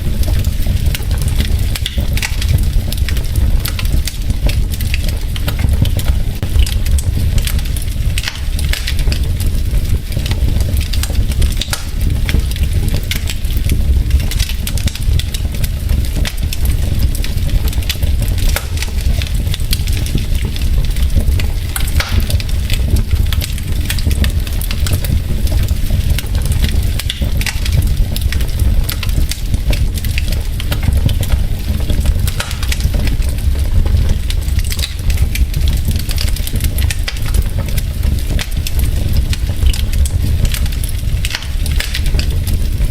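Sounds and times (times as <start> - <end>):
burning wood crackles and pops: 0.0 - 42.9
low fire rumble: 0.0 - 42.9.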